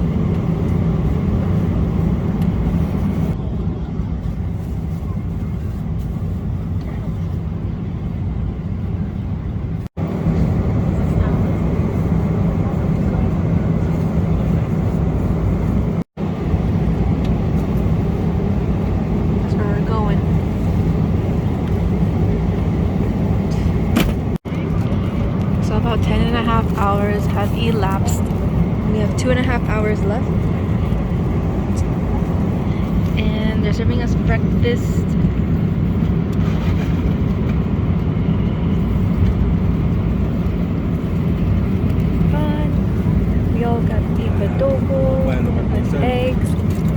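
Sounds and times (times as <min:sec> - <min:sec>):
aircraft cabin engine and airflow noise: 0:00.0 - 0:46.9.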